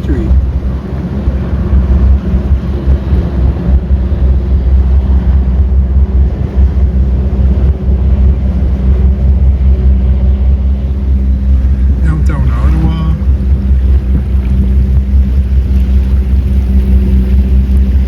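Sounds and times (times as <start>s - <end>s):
boat engine running: 0.0s - 18.0s
wind rumble on microphone: 0.0s - 18.0s.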